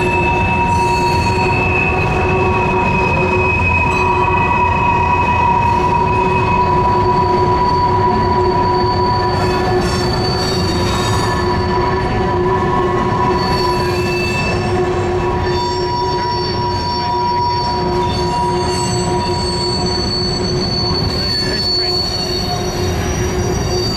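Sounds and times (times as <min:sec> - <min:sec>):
high-pitched wheel squeal: 0:00.0 - 0:23.9
train wheels rumbling on rail: 0:00.0 - 0:23.9.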